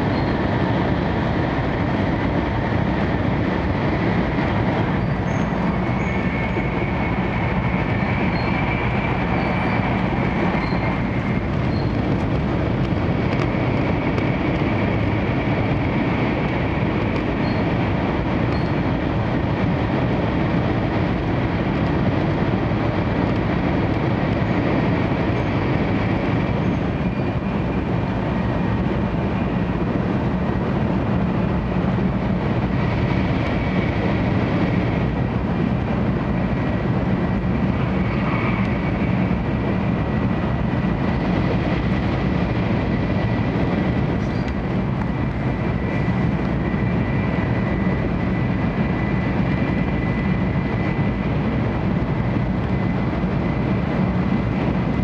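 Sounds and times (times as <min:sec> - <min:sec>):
train wheels and air rumbling: 0:00.0 - 0:55.0.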